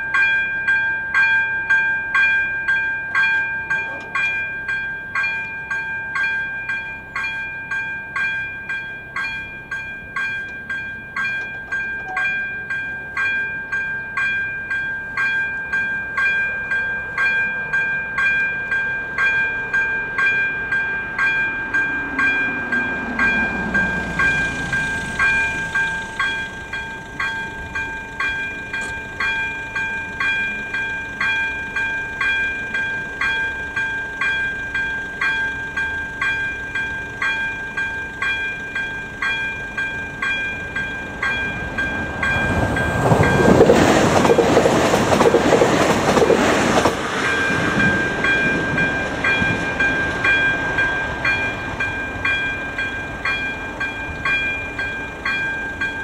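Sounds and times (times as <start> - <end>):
level crossing warning bell: 0.0 - 46.4, 47.0 - 56.0
train rumble and wheel noise: 0.0 - 56.0.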